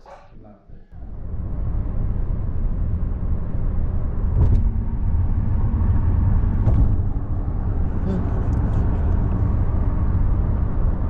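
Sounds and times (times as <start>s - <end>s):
car road and engine rumble: 0.9s - 11.0s.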